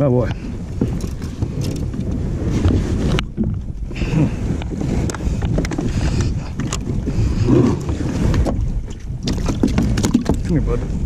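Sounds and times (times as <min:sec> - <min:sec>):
water washing against hull: 0:00.0 - 0:11.0
wind buffeting microphone: 0:00.0 - 0:11.0.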